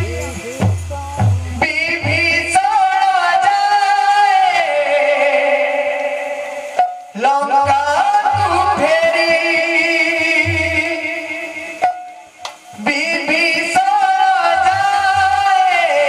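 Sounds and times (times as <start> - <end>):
drum strokes: 0.0 - 5.1, 5.7 - 16.0.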